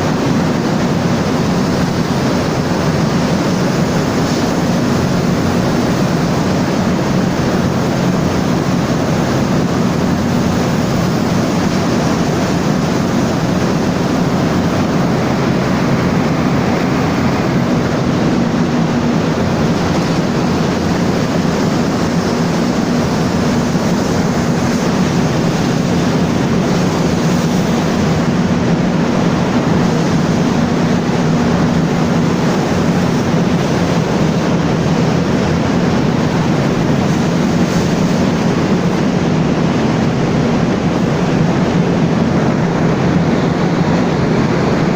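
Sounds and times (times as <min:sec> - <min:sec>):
diesel generator engine droning: 0:00.0 - 0:44.9.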